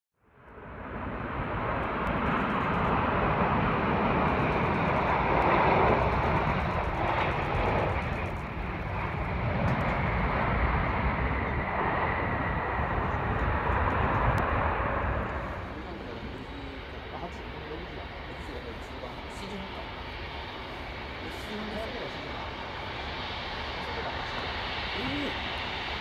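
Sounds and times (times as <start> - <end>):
faint whine: 0.3 - 26.0
jet engine rushing: 0.4 - 26.0.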